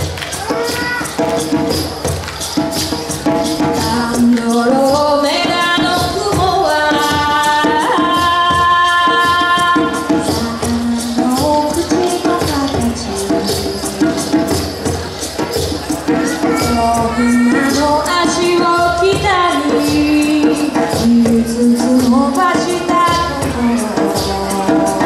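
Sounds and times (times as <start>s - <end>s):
hand drums: 0.0s - 25.0s
shaker: 0.0s - 25.0s
woman singing: 3.6s - 14.8s, 16.1s - 25.0s.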